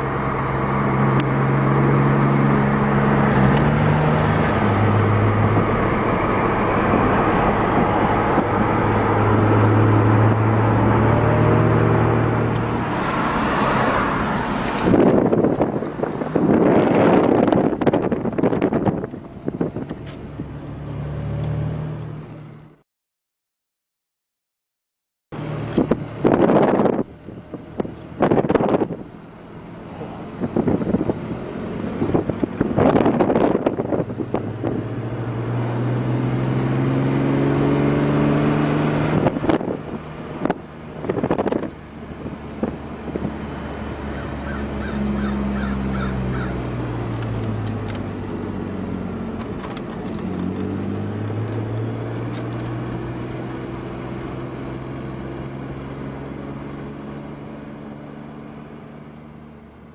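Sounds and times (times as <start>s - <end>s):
car engine accelerating: 0.0s - 22.8s, 25.3s - 59.9s.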